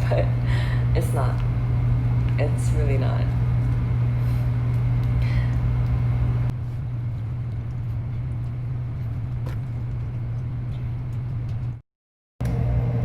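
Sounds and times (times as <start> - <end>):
ventilation unit humming: 0.0 - 11.8.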